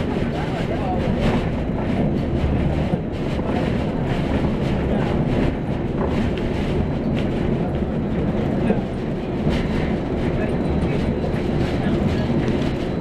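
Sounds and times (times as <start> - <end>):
bus interior rumble: 0.0 - 13.0
rattles and knocks from bus body: 0.0 - 13.0.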